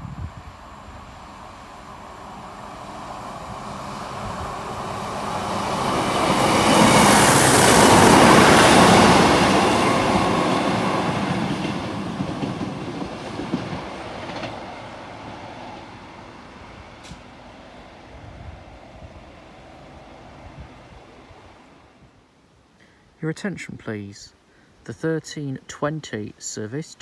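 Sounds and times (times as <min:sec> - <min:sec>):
diesel train passing: 0:00.0 - 0:22.4.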